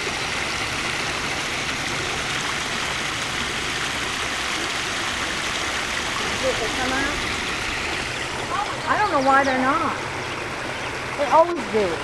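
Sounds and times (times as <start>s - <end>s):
waterfall splashing into pond: 0.0s - 12.0s.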